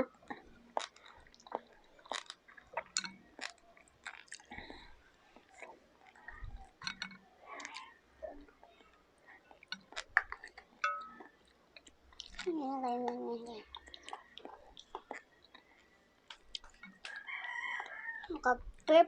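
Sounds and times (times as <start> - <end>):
wet chewing mouth sounds: 0.0 - 18.9.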